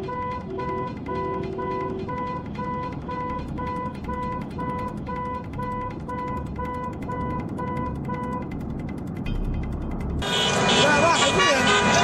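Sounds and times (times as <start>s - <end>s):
low rumble of traffic: 0.0s - 12.0s.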